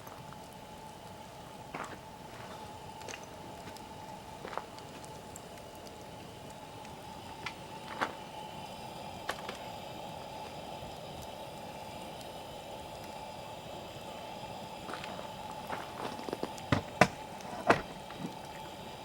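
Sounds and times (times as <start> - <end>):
campfire flame hissing: 0.0 - 19.0
fire crackles and pops: 0.0 - 19.0.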